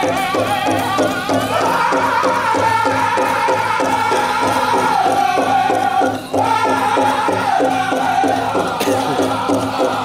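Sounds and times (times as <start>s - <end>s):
big drum beaten steadily: 0.0s - 10.0s
high-pitched group singing: 0.0s - 10.0s.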